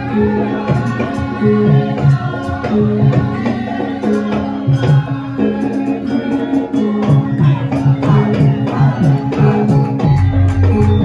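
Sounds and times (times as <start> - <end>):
hand drumming: 0.0 - 11.0
sustained pitched gamelan tones: 0.0 - 11.0.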